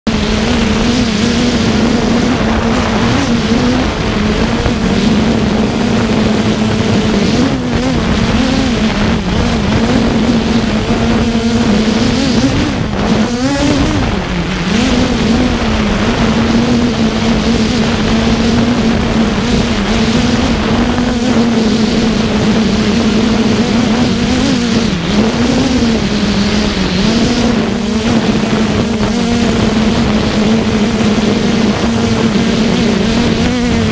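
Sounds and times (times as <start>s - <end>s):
drone propellers humming: 0.0s - 33.9s
rushing wind: 0.0s - 33.9s.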